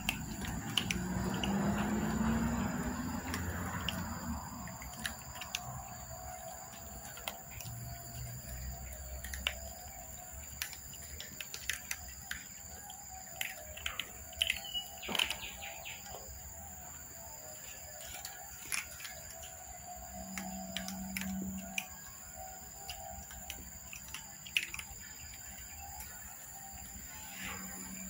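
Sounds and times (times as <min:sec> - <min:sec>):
cats crunching dry kibble: 0:00.0 - 0:27.0.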